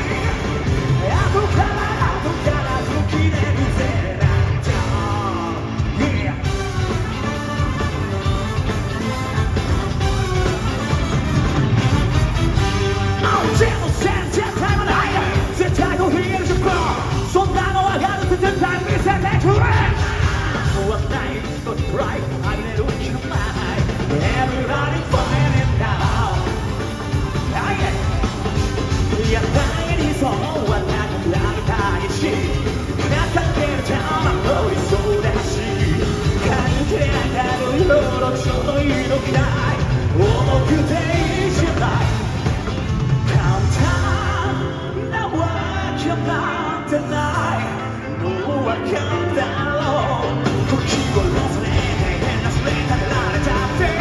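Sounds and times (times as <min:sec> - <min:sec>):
man singing and shouting: 0:00.0 - 0:09.1, 0:13.1 - 0:54.0
live rock band playing: 0:00.0 - 0:54.0.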